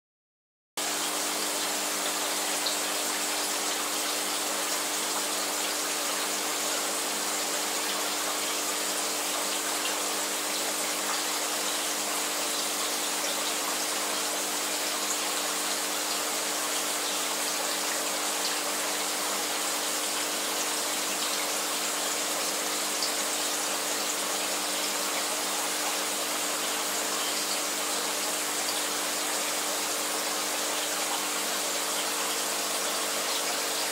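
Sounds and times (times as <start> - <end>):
pump humming: 0.8 - 33.9
water hissing in aquarium filter: 0.8 - 33.9.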